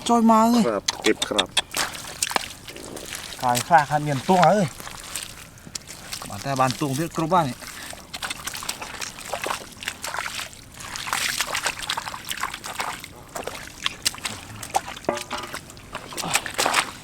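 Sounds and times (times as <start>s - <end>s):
shallow water splashing: 0.0s - 17.0s
water trickling: 0.0s - 17.0s.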